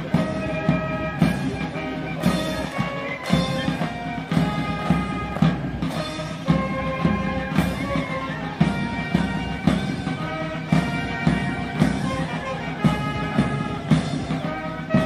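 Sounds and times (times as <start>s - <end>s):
drum beating: 0.0s - 15.0s
wind instruments playing a march: 0.0s - 15.0s.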